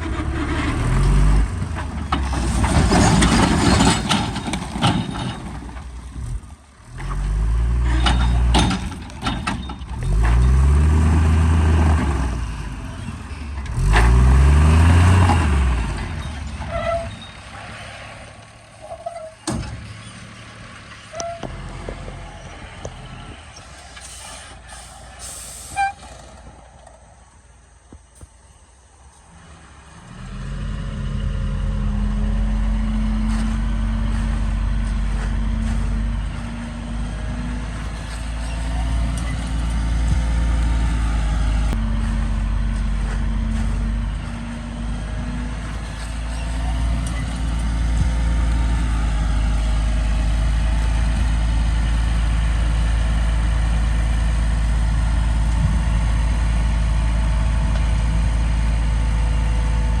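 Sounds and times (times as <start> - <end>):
heavy diesel engine running: 0.0 - 60.0.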